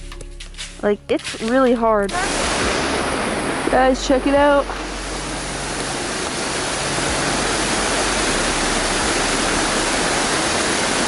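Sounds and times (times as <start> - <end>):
creek water rushing over rock: 1.5 - 11.0.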